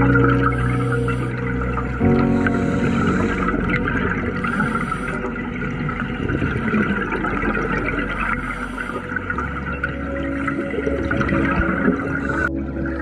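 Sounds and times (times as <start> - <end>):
underwater air bubbles gurgling: 0.0 - 13.0.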